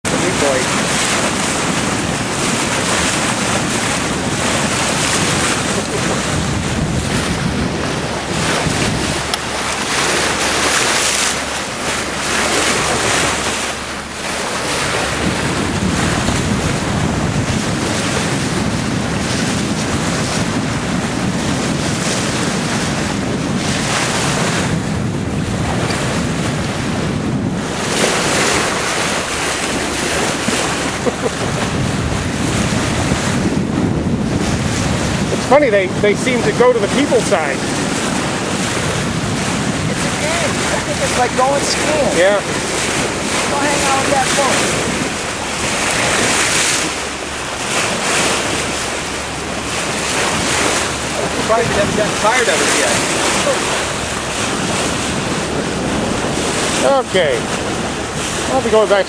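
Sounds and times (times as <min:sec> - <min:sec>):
sea water rushing along boat: 0:00.0 - 0:59.0
wind blowing on microphone: 0:00.0 - 0:59.0.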